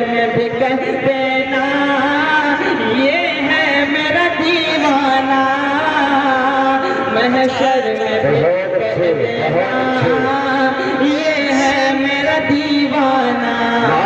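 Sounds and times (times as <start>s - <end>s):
man singing long held notes: 0.0s - 14.0s.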